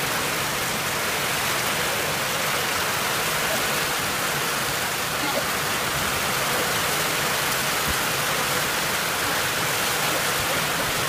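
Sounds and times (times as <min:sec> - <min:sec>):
heavy rain on concrete: 0:00.0 - 0:11.0.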